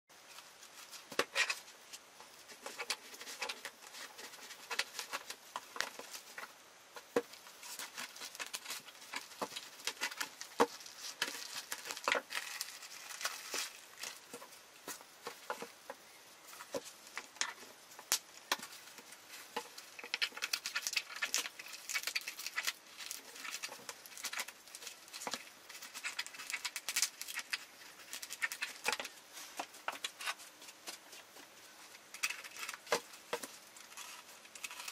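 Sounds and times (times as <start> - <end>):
plastic tape crinkling: 0.2 - 34.9.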